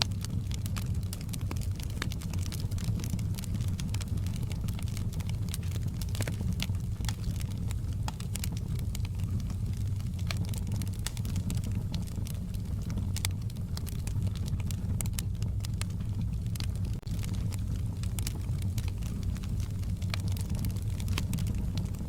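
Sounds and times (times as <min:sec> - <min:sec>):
logs crackling and popping: 0:00.0 - 0:22.0
wood fire rumbling: 0:00.0 - 0:22.0.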